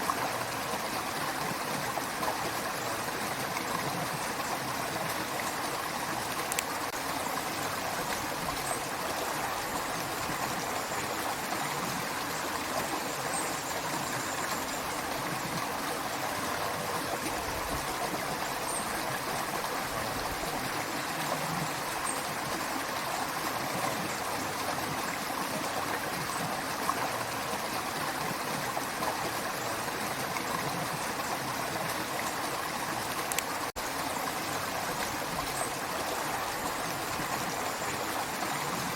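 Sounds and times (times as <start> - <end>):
creek water rushing and trickling: 0.0 - 38.9.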